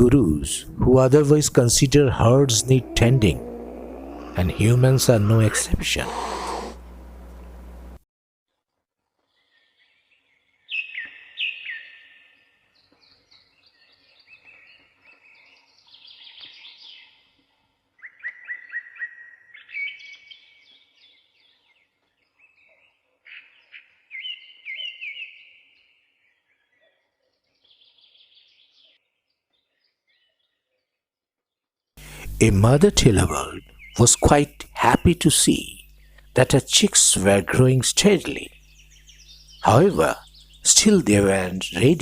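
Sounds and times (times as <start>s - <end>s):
songbirds chirping: 0.0s - 8.0s, 9.2s - 42.0s.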